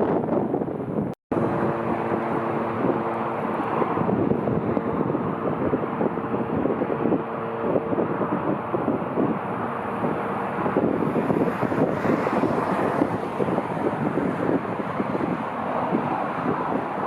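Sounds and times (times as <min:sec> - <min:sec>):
wind buffeting microphone: 0:00.0 - 0:17.0
jet engines running: 0:01.3 - 0:17.0.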